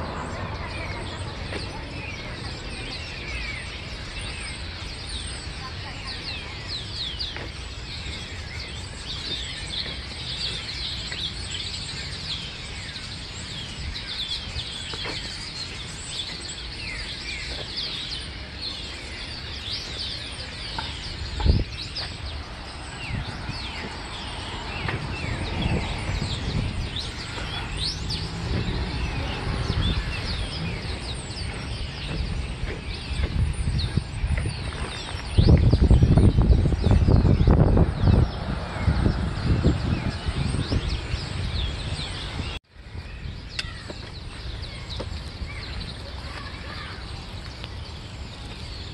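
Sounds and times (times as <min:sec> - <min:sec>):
flock of birds chirping: 0:00.0 - 0:48.9.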